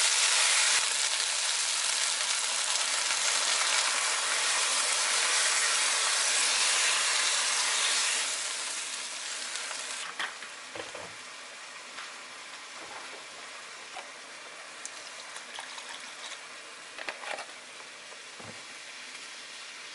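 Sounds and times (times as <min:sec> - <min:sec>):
food sizzling in a frying pan: 0:00.0 - 0:17.0, 0:17.6 - 0:19.9.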